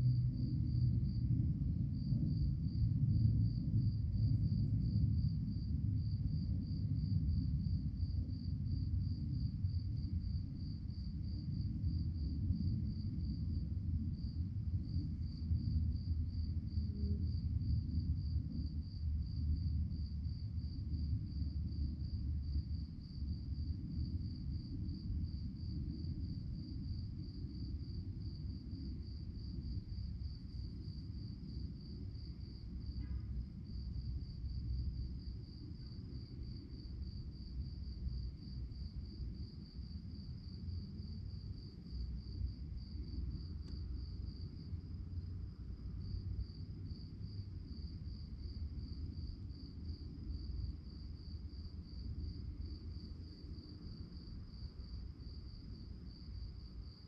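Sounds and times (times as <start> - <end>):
crickets chirping: 0.0 - 57.0
low rumbling background: 0.0 - 57.0.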